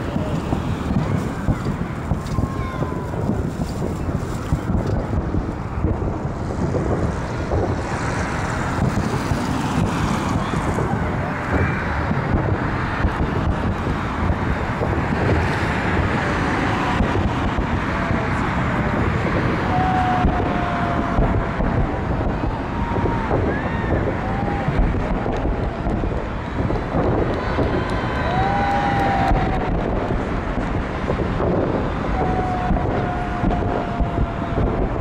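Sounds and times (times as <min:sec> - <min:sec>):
fireworks bursting and crackling: 0:00.0 - 0:35.0
fireworks whistling: 0:00.0 - 0:35.0.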